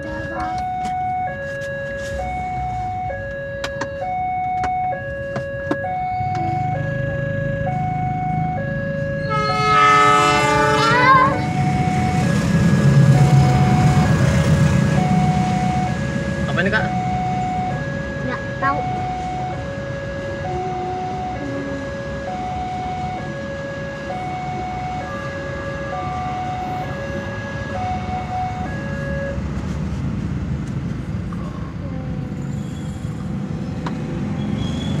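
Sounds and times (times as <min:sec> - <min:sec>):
two-tone crossing alarm: 0:00.0 - 0:29.5
passing train rumble: 0:06.4 - 0:35.0.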